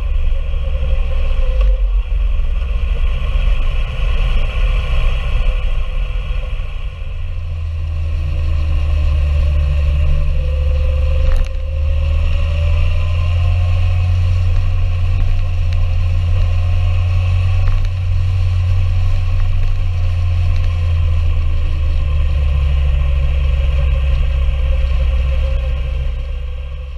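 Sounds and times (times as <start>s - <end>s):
motorcycle engine running: 0.0s - 26.9s
wind on microphone: 0.0s - 26.9s.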